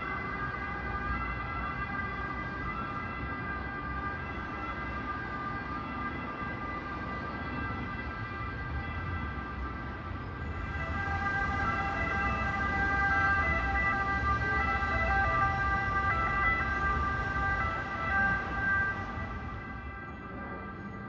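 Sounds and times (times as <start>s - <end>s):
ambulance two-tone siren: 0.0s - 21.0s
road traffic rumble: 0.0s - 21.0s.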